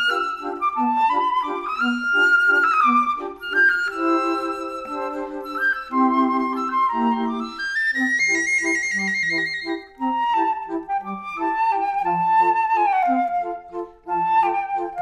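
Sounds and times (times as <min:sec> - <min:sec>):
bouncy accompanying notes: 0:00.0 - 0:15.0
flute-like melody: 0:00.0 - 0:15.0.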